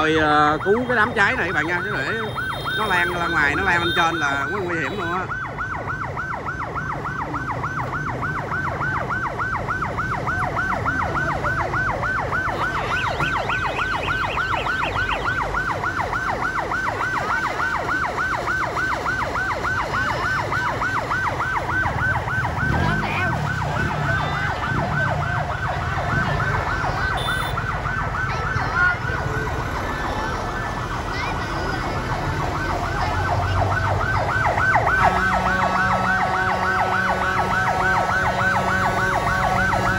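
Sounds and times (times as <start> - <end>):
engines idling: 0.0 - 39.9
fire engine siren yelping: 0.0 - 39.9.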